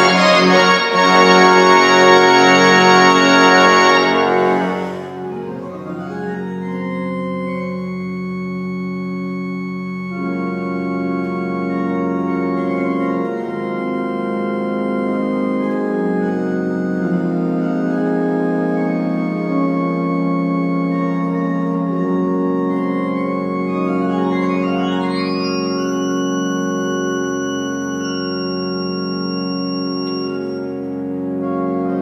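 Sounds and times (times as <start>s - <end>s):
pipe organ chords: 0.0s - 32.0s.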